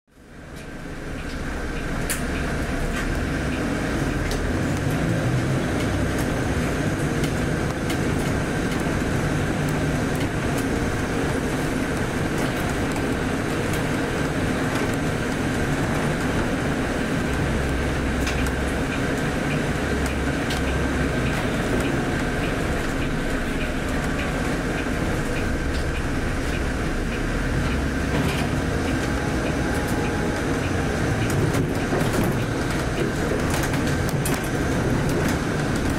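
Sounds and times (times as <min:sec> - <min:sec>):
bus diesel engine rumble: 0:00.1 - 0:35.9.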